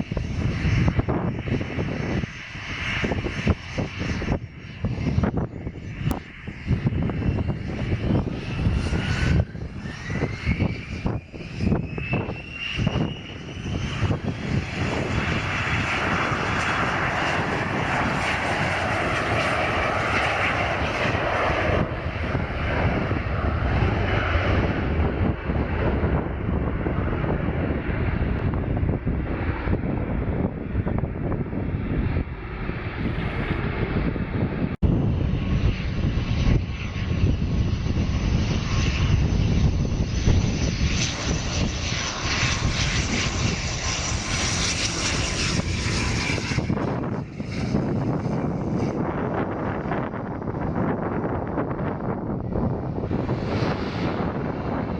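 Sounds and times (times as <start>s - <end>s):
turboprop engines whining: 0.0s - 54.9s
wind buffeting microphone: 0.0s - 54.9s.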